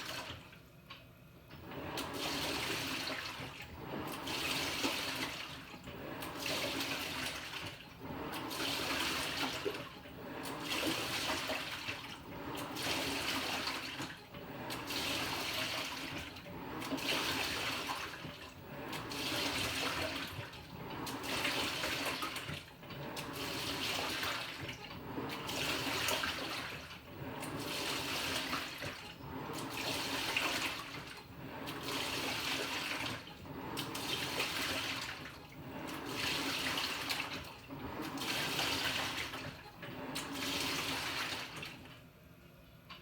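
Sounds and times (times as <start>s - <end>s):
water sloshing in washing machine: 0.0s - 42.2s.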